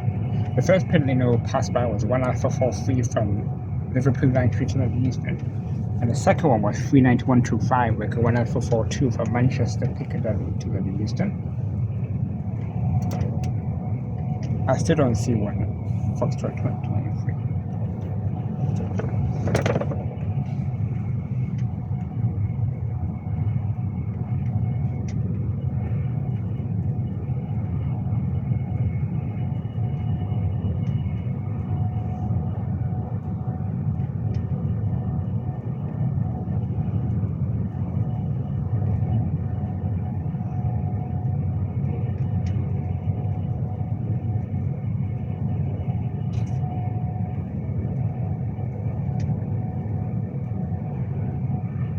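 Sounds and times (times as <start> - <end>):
electric train rumbling: 0.0 - 51.9
faint train whine: 0.0 - 51.9.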